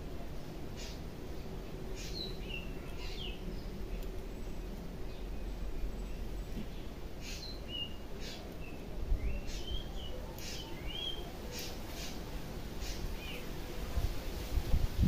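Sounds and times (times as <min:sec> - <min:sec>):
small birds chirping: 0:00.3 - 0:13.8.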